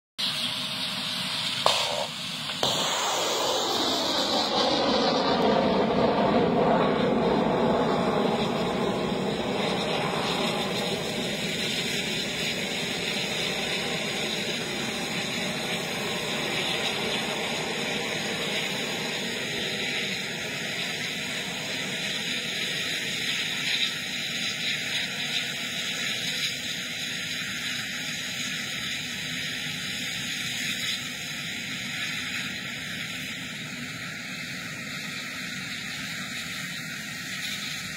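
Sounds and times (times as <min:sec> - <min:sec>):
rocket motor rushing: 0:00.2 - 0:37.9.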